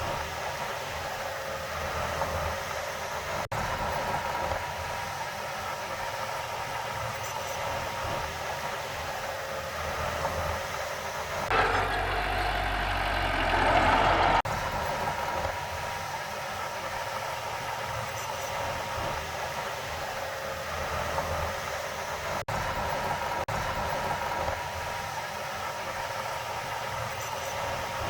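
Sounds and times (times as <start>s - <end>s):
diesel earthmoving machinery running: 0.0s - 28.0s.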